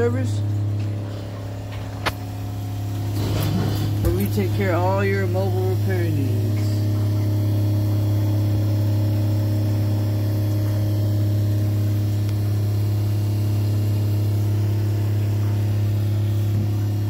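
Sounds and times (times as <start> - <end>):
loud mechanical hum: 0.0 - 17.0.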